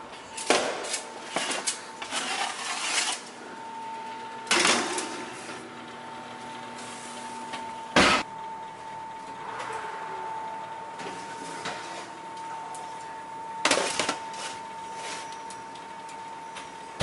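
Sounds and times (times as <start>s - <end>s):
convection fan whine: 0.0s - 17.0s.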